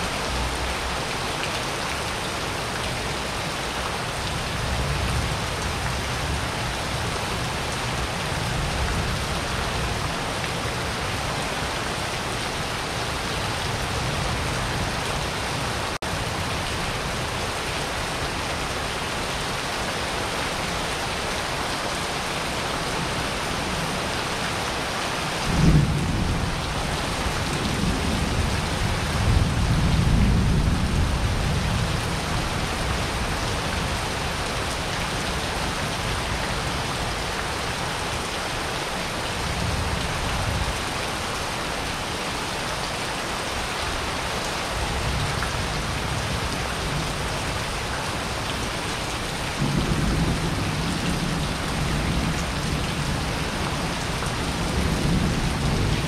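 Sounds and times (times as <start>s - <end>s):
rain on paving and roofs: 0.0s - 56.0s.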